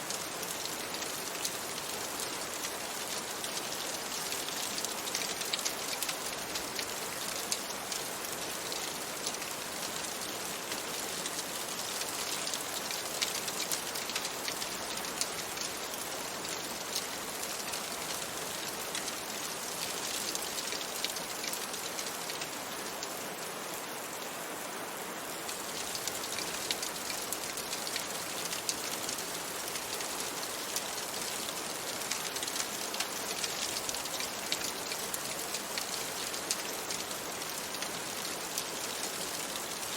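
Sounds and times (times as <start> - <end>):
steady rain on a window: 0.0 - 39.9.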